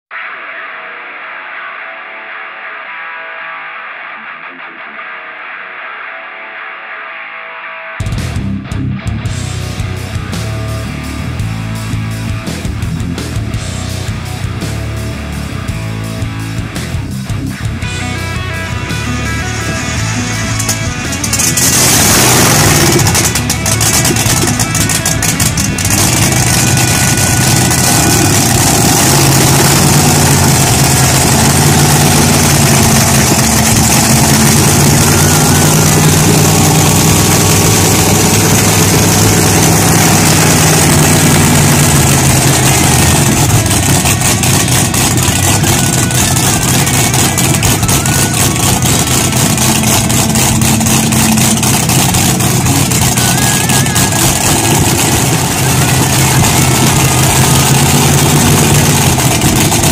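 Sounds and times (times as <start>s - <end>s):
loud engine idling: 9.2s - 59.9s.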